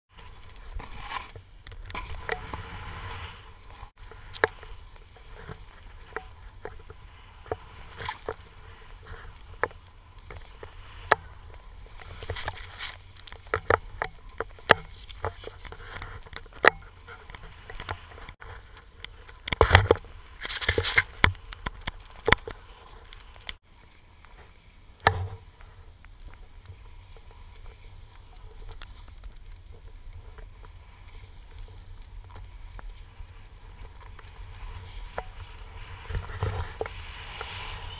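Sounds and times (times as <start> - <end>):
skis scraping over snow: 0.1 - 37.9.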